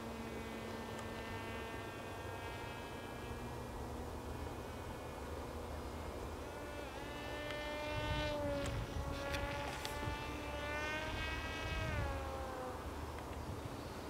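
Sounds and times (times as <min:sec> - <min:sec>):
model plane motor whine: 0:00.0 - 0:14.0.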